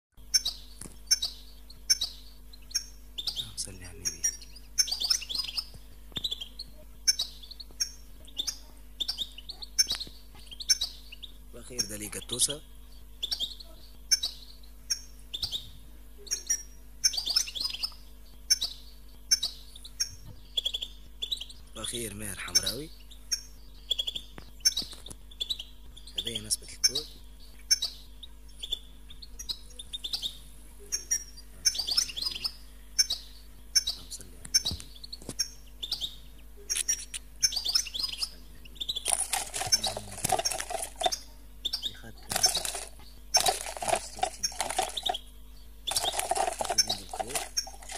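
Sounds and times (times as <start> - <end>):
bird twittering song: 0.1 - 47.9
goldfinch chirping: 0.2 - 47.9.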